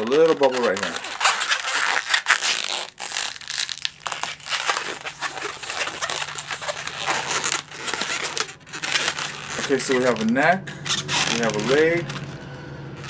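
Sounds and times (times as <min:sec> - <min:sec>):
balloon rubbing and squeaking: 0:00.0 - 0:13.0.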